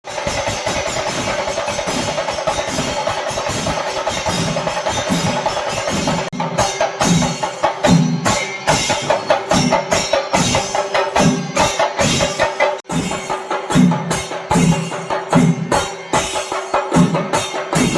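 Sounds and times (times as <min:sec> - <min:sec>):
drums beating fast rolling strokes: 0:00.0 - 0:17.9.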